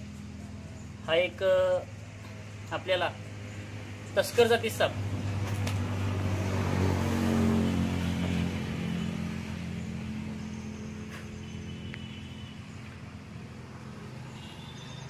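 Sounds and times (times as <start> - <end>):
vehicle engine hum passing by: 0.0 - 15.0.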